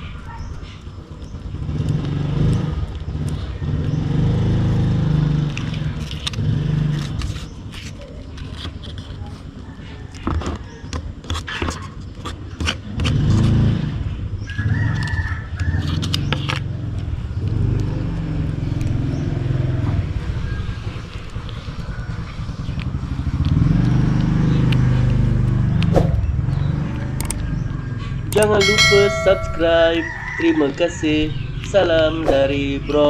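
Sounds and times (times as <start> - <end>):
vehicle engine rumbling: 0.0 - 11.2, 13.3 - 33.0.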